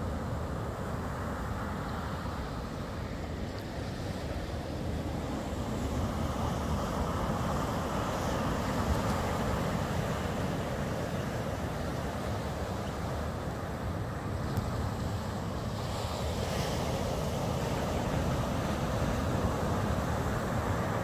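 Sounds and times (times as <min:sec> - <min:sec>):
surf washing up a beach: 0:00.0 - 0:21.0.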